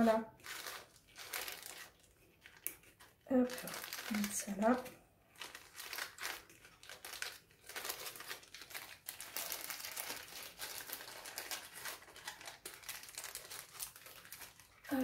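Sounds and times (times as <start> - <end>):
packaging crinkling: 0.3 - 15.0.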